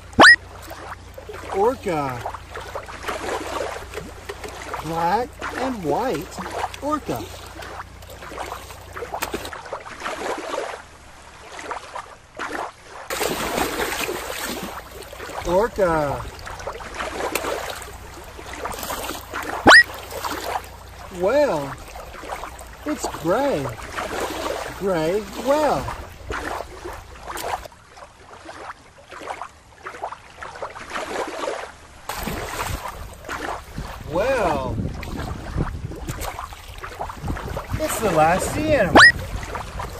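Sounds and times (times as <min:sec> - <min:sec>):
river water splashing: 0:00.0 - 0:39.9.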